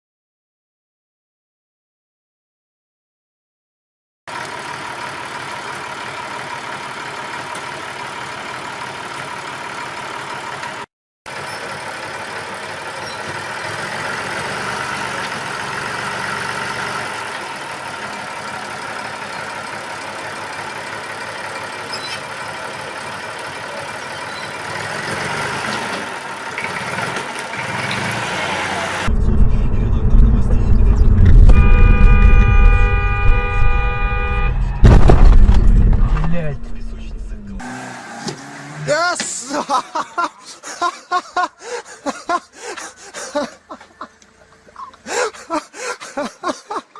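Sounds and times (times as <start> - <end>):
truck engine running: 4.3 - 37.6, 38.4 - 46.5.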